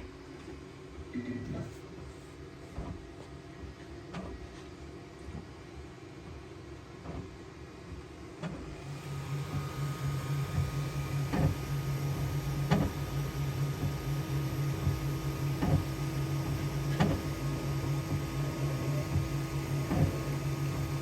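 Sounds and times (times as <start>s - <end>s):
printer motor and fan hum: 0.0s - 21.0s.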